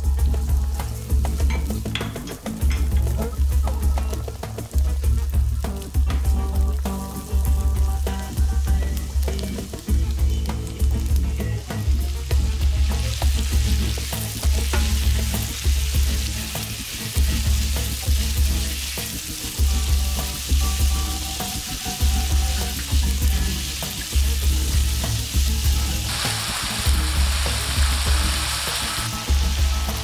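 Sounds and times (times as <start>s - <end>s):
background music with beat: 0.0s - 30.0s
meat sizzling in hot oil: 0.0s - 30.0s.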